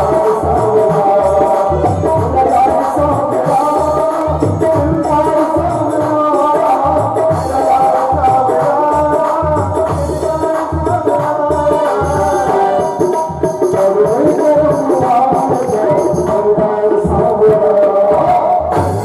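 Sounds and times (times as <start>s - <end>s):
devotional song music: 0.0s - 19.0s
tabla beat: 0.0s - 19.0s.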